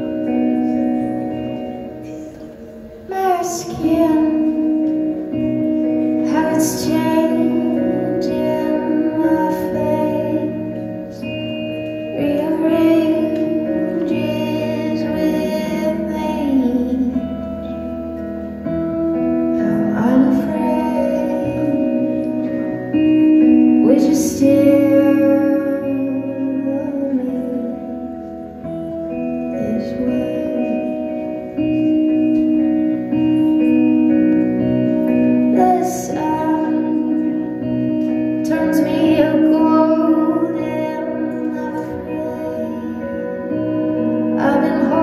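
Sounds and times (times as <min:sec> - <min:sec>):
woman singing: 0:00.0 - 0:17.8, 0:18.7 - 0:45.0
guitar: 0:00.0 - 0:45.0
keyboard chords: 0:00.0 - 0:45.0.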